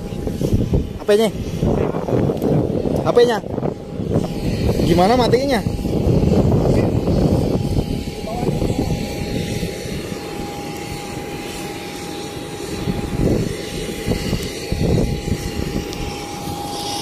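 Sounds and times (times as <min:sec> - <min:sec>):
jet engine high whine: 0:00.0 - 0:17.0
jet rumbling roar: 0:00.0 - 0:17.0.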